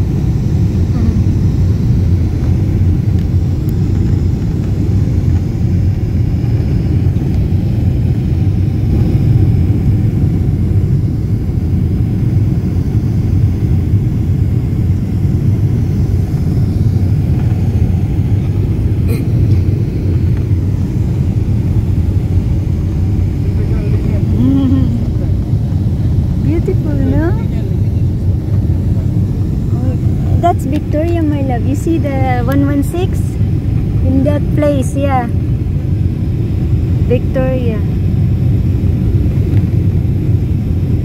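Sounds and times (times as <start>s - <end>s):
jet engines and airflow rumble: 0.0s - 41.0s.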